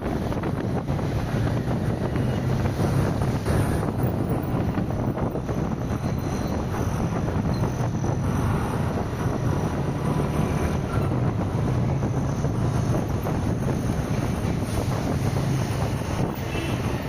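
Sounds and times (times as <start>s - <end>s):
road and tyre noise: 0.0s - 17.0s
wind rushing over microphone: 0.0s - 17.0s.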